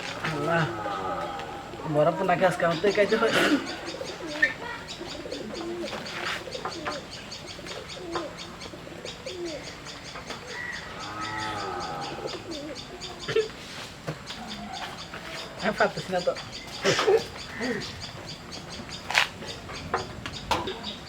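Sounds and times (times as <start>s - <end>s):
birds cooing and chirping: 0.0s - 21.0s.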